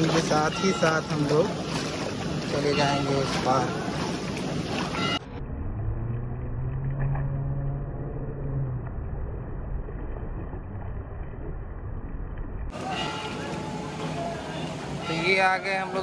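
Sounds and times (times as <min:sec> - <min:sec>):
low motor hum: 0:00.0 - 0:15.1
feet wading through river water: 0:00.0 - 0:16.0.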